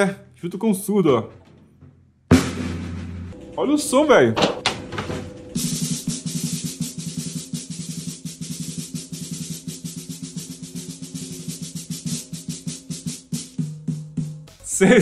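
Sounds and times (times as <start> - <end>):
steady low drum tone: 1.2 - 15.0
snare drum strokes and rolls: 2.3 - 15.0.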